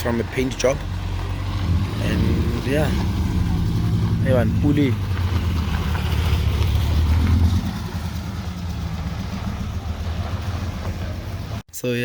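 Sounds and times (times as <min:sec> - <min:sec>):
car engine running low revs: 0:00.0 - 0:11.6.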